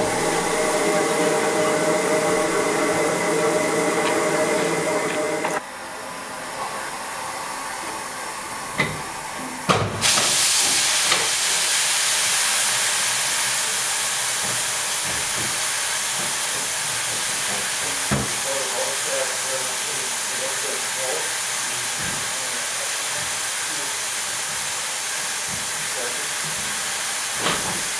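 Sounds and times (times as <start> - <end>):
steam hissing: 0.0 - 5.6, 6.8 - 27.9.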